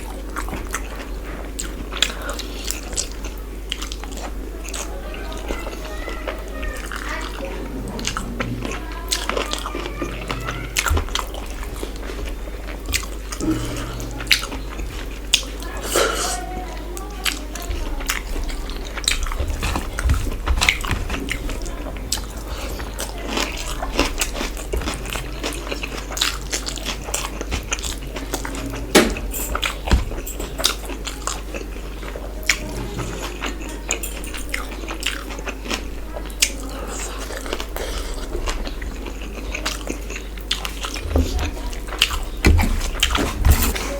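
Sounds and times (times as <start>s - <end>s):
close-miked chewing: 0.0s - 43.9s
steady low hum: 0.0s - 43.9s.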